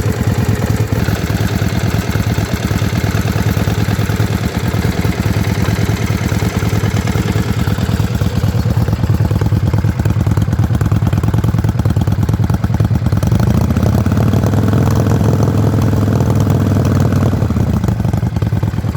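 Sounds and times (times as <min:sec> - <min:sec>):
motorcycle engine idling with misfire: 0:00.0 - 0:18.9.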